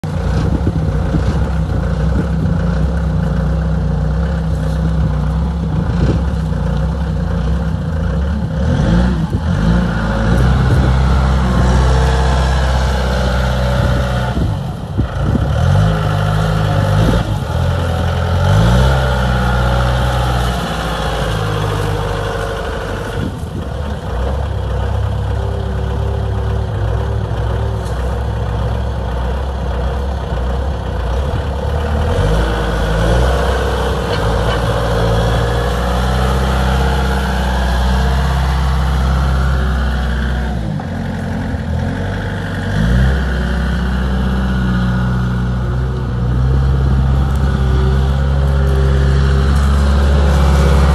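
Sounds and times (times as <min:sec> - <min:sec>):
diesel engine revving: 0:00.0 - 0:50.9.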